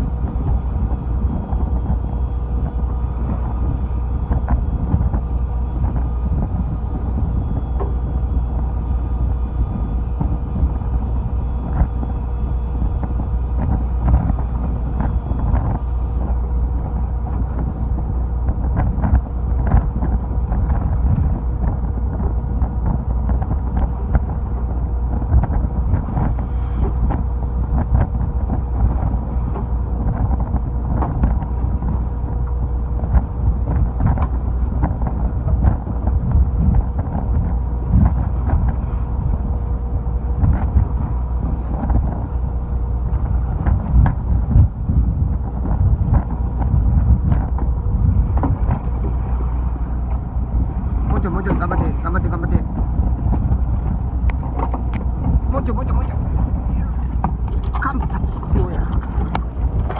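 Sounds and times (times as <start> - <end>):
boat engine running: 0.0 - 59.9
water splashing against hull: 0.0 - 59.9
wind buffeting microphone: 0.0 - 59.9.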